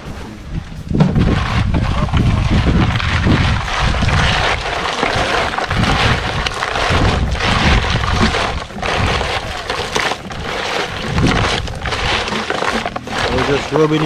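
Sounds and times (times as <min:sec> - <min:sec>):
wind buffeting microphone: 0:00.0 - 0:14.0
crackling: 0:00.9 - 0:14.0.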